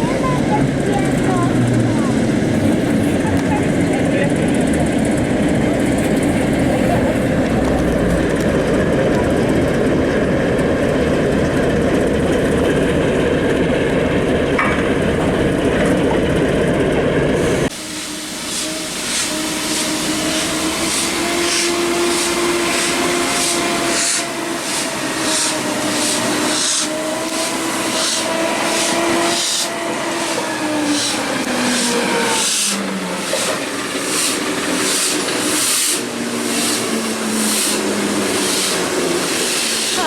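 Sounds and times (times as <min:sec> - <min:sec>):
steam locomotive exhaust beats: 0:00.0 - 0:40.0.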